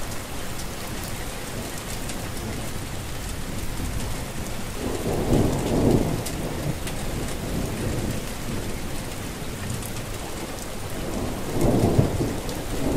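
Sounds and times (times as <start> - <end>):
steady rain falling: 0.0 - 12.9
low rumble of thunder: 1.0 - 12.9.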